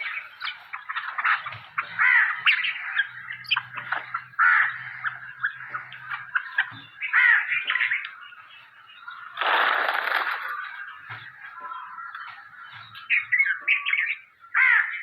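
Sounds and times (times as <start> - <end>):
young birds begging calls: 0.0 - 15.0.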